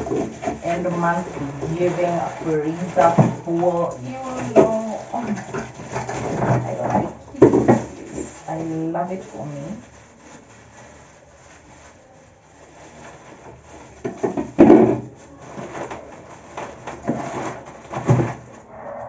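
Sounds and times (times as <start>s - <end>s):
freezer drawers knocking and scraping: 0.0s - 9.6s, 12.9s - 18.7s.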